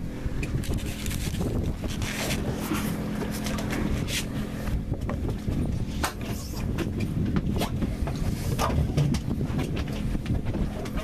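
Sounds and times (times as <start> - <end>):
boat engine idling: 0.0 - 11.0
wind buffeting microphone: 0.0 - 11.0.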